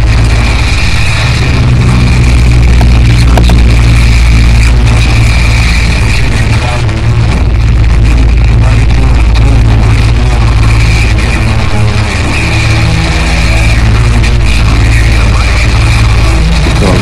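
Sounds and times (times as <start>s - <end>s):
distorted noise music: 0.0s - 17.0s
steady low drone: 0.0s - 17.0s.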